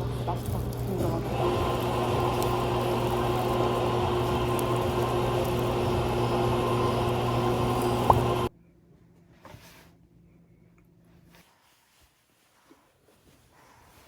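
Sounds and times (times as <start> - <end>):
mechanical hum: 0.0 - 12.4.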